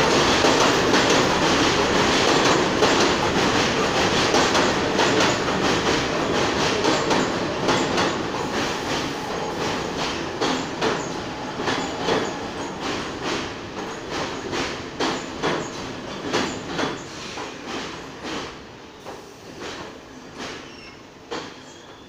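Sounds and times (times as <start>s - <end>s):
subway train rumble: 0.0s - 22.0s.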